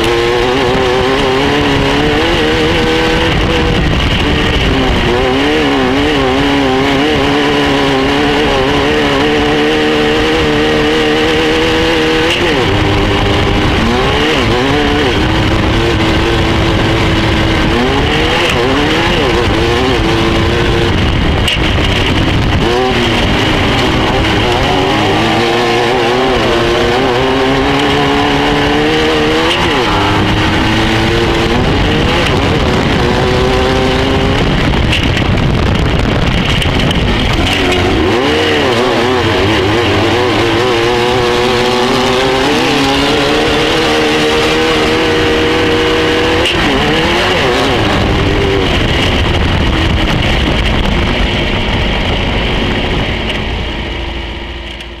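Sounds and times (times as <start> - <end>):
constant rush of noise: 0.0 - 55.0
racing buggy engine: 0.0 - 55.0.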